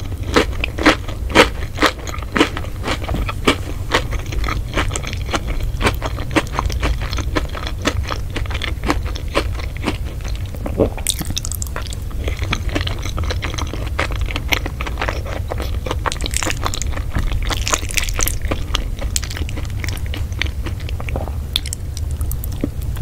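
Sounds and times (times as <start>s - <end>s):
person chewing crunchy food: 0.0s - 23.0s
steady low hum: 0.0s - 23.0s.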